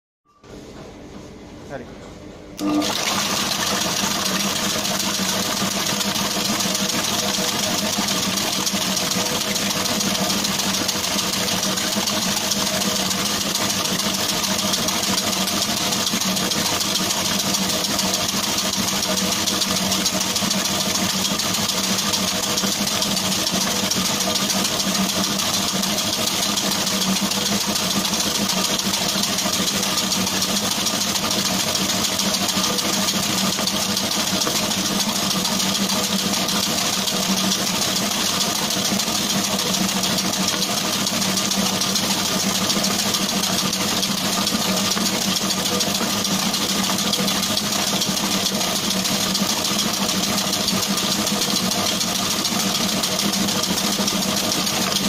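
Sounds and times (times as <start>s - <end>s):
mixer motor hum: 2.6s - 55.0s
whisk whirring in batter: 2.6s - 55.0s.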